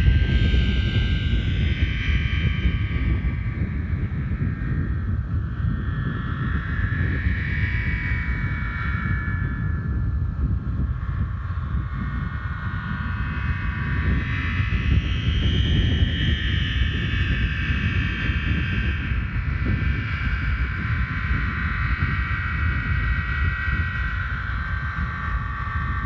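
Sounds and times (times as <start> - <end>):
aeolian harp drone tones: 0.0 - 26.0
wind rumble on microphone: 0.0 - 26.0.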